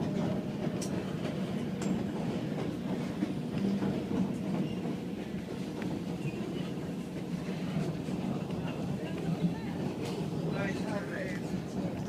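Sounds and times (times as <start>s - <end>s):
train rolling low rumble: 0.0s - 12.0s.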